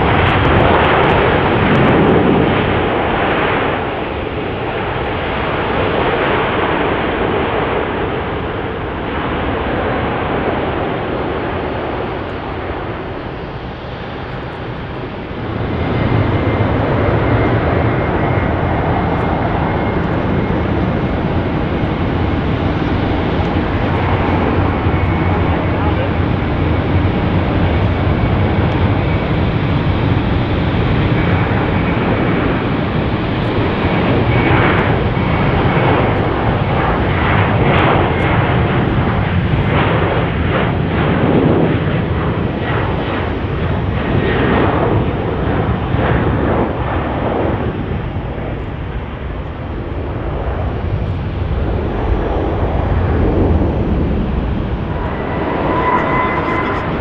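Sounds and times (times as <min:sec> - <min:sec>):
jet engines passing close by: 0:00.0 - 0:57.0.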